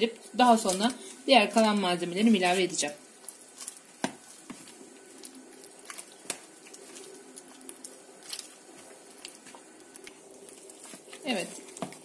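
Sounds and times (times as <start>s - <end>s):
soft wet squishing: 0.0s - 12.0s.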